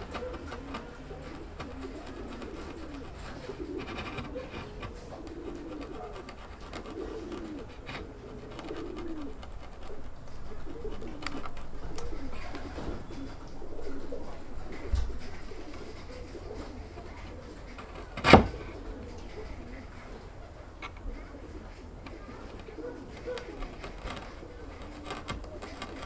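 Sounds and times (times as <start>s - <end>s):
chisel scraping wood: 0.0s - 18.8s, 22.1s - 26.0s
doves cooing: 0.0s - 26.0s.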